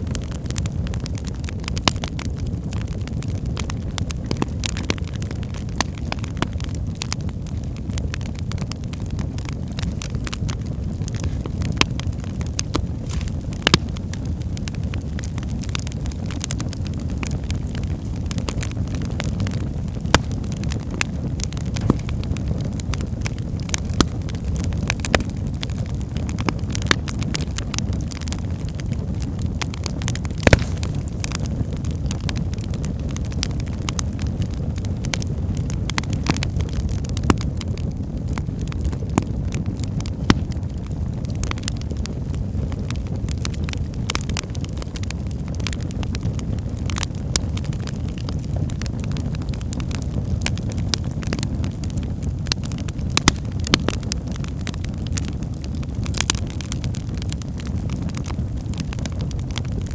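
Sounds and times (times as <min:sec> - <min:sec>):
fire flames rumbling: 0:00.0 - 0:59.9
logs crackling and popping: 0:00.0 - 0:59.9.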